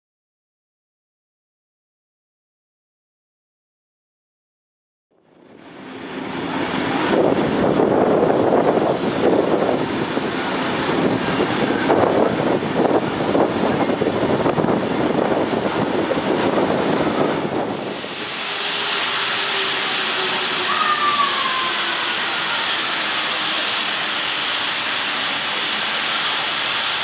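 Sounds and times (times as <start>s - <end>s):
electric train passing at speed: 5.2s - 27.0s.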